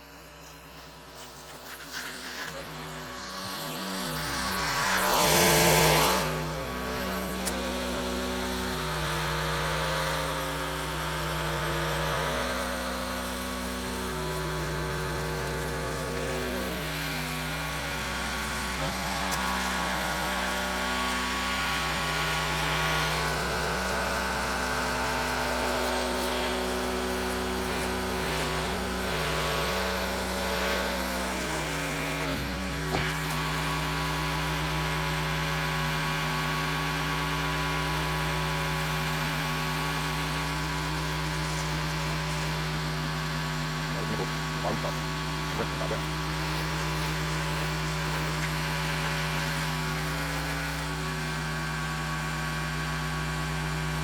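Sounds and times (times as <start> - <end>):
pressure washer engine running: 0.1 - 54.0.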